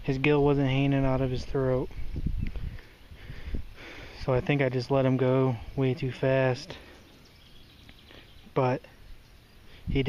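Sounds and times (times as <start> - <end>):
low rumbling microphone noise: 0.0 - 10.0.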